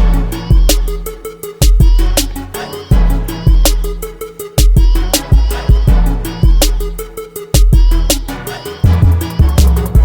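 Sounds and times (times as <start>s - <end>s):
hip-hop beat with heavy bass: 0.0s - 10.0s.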